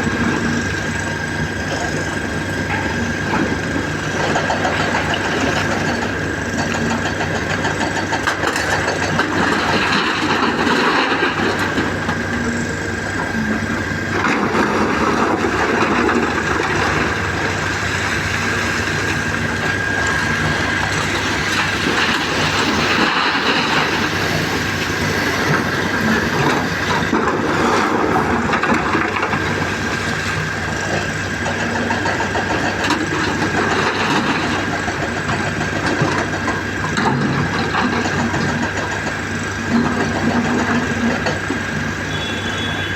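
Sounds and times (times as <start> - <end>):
excavator diesel engine running: 0.0 - 42.9
steady high whine: 0.0 - 42.9.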